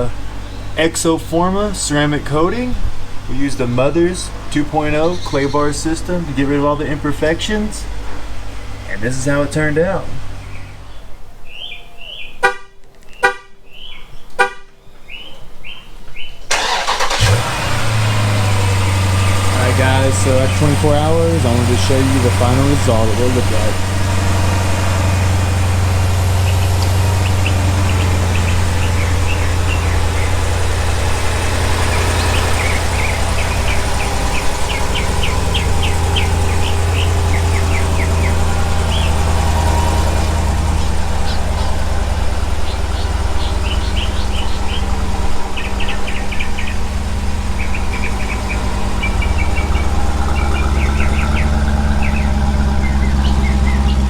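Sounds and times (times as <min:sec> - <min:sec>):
small birds chirping: 0:00.0 - 0:54.0
vehicle engine idling: 0:00.0 - 0:54.0.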